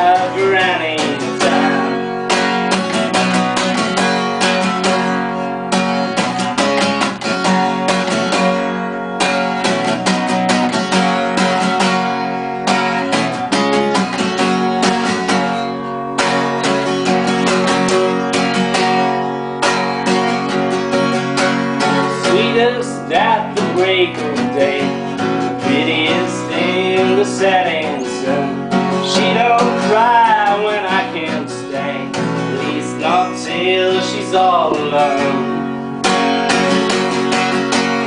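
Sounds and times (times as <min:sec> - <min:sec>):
acoustic guitar strumming chords: 0:00.0 - 0:38.0.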